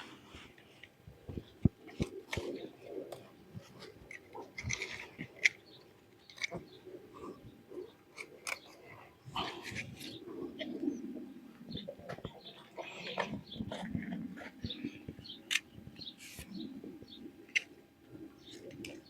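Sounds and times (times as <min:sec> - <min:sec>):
bird cooing: 0:01.2 - 0:19.0.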